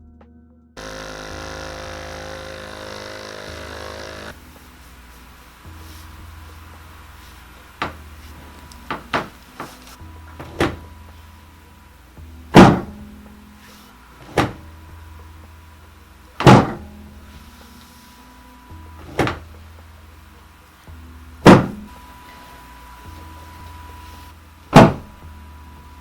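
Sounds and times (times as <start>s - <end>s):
low steady hum: 0.8s - 26.0s.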